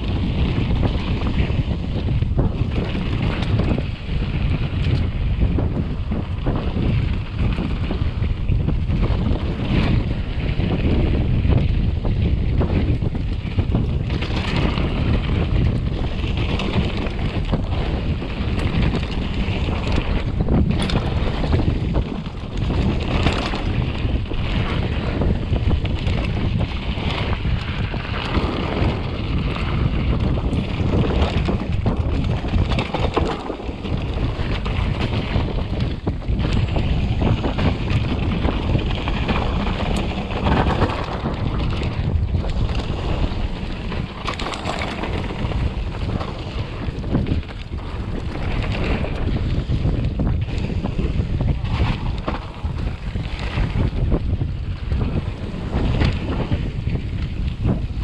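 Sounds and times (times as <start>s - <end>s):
bike knocks and rattles: 0.0s - 58.0s
bike rolling low rumble: 0.0s - 58.0s
wind on camera microphone: 0.0s - 58.0s.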